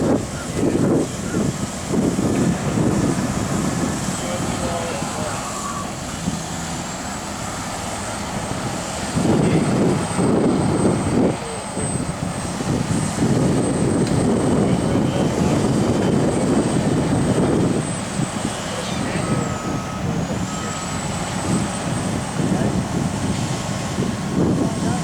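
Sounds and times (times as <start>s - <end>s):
truck engine roaring: 0.0s - 25.0s.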